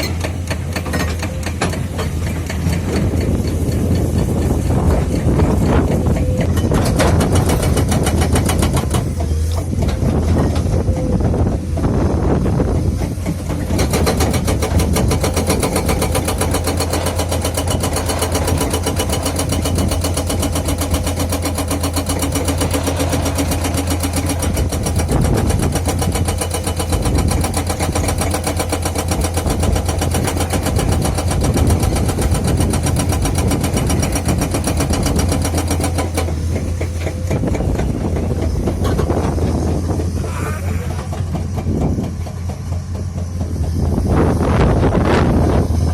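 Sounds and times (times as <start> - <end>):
hydraulic breaker hammering: 0.0 - 11.0, 12.9 - 43.9
diesel engine running: 0.0 - 45.9.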